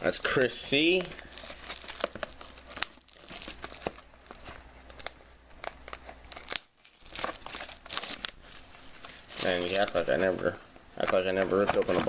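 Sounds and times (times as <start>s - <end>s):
plastic shrink-wrap crinkling: 0.0s - 12.0s.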